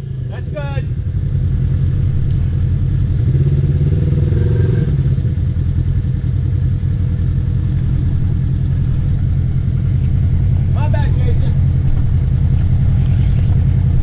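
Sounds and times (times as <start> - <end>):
engine running low rumble: 0.0 - 14.0.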